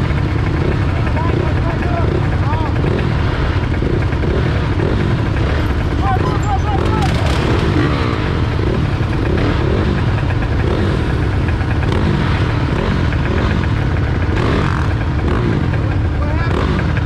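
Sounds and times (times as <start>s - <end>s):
engines idling: 0.0s - 17.0s.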